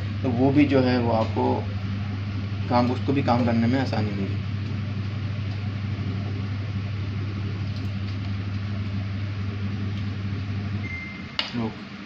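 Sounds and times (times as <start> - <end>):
washing machine humming: 0.0 - 12.0.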